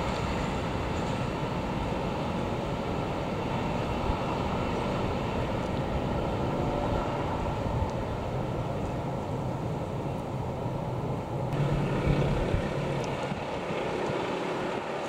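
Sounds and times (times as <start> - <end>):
train coaches rumbling on rails: 0.0 - 15.0.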